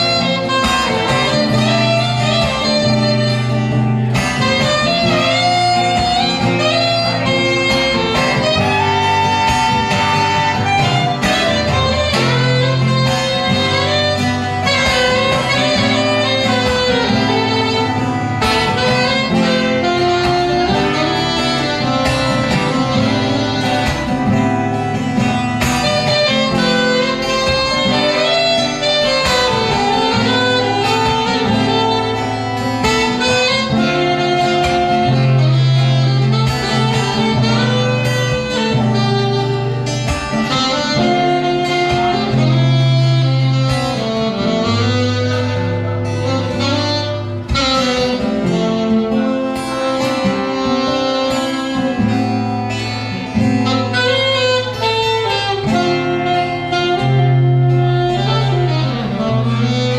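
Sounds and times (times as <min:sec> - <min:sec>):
acoustic guitar strumming: 0:00.0 - 0:59.9
saxophone melody: 0:00.0 - 0:59.9.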